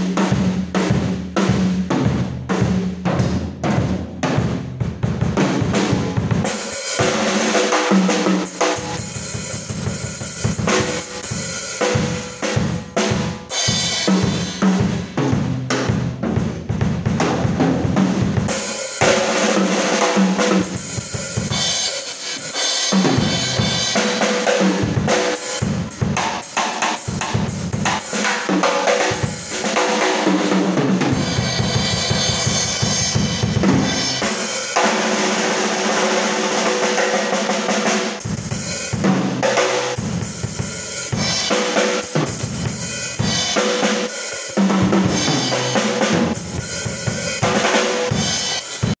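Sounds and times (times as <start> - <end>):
drum kit solo: 0.0 - 49.0.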